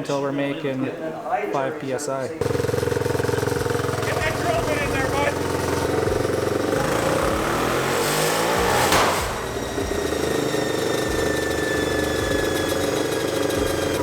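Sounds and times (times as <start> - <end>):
single-cylinder engine revving: 2.4 - 14.0.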